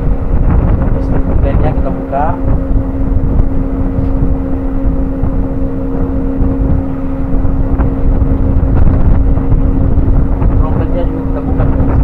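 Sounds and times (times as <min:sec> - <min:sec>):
machinery hum: 0:00.0 - 0:12.0
wind buffeting microphone: 0:00.0 - 0:12.0.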